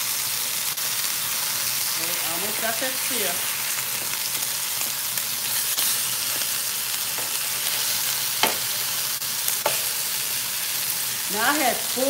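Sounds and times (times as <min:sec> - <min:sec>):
beef sizzling in a pan: 0:00.0 - 0:12.0.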